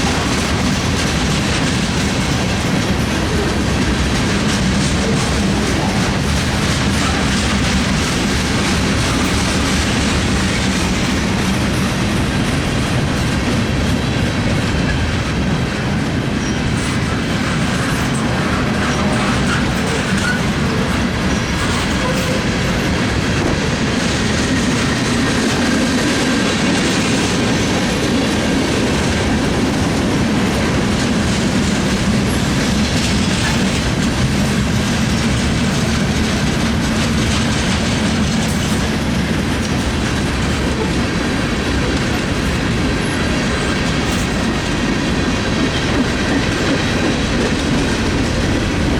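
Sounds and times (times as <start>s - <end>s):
freight train rumble: 0.0s - 48.9s
wheels clacking over rails: 0.0s - 48.9s.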